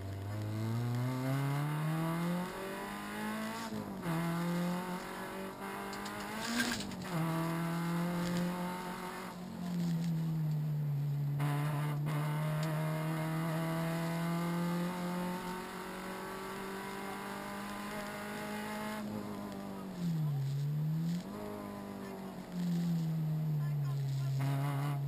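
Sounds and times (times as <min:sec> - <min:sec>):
car engine revving under load: 0:00.0 - 0:25.0.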